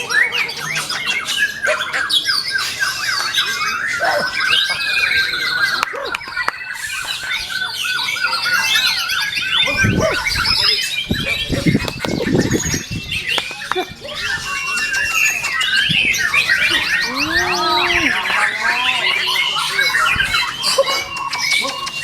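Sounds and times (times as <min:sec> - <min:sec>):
bird singing whistles and chirps: 0:00.0 - 0:22.0.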